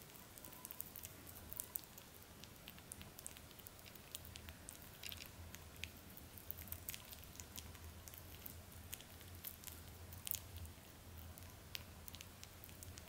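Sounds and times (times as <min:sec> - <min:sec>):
rabbit chewing: 0:00.0 - 0:13.0.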